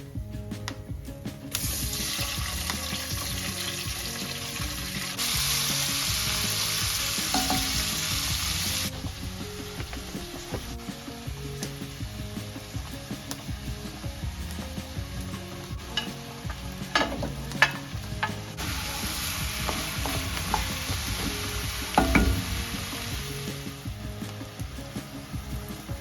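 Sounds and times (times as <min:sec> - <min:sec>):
quiet background music: 0:00.0 - 0:26.0
food sizzling in frying: 0:00.4 - 0:26.0.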